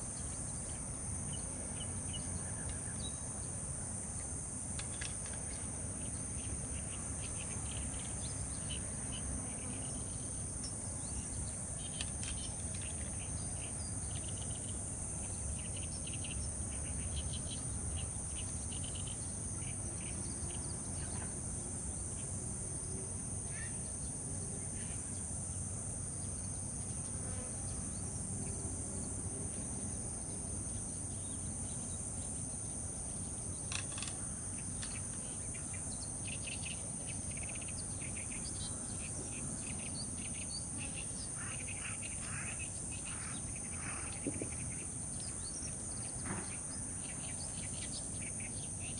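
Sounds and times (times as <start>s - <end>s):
high-pitched insect chorus: 0.0s - 48.9s
short insect chirps: 4.6s - 22.3s, 23.4s - 48.9s.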